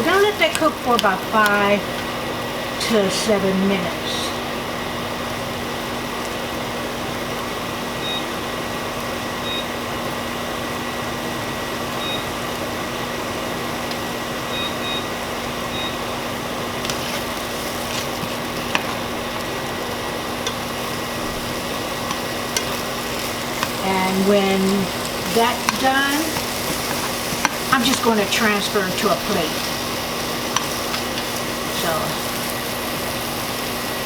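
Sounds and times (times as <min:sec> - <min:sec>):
kitchen fan humming: 0:00.0 - 0:34.0
vegetables sizzling in a pan: 0:00.0 - 0:34.0.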